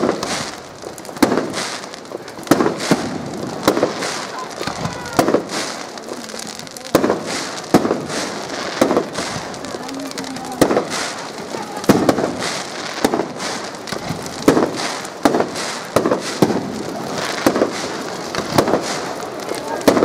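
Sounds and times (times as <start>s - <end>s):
fireworks shells bursting: 0.0s - 20.0s
steady hiss: 0.0s - 20.0s.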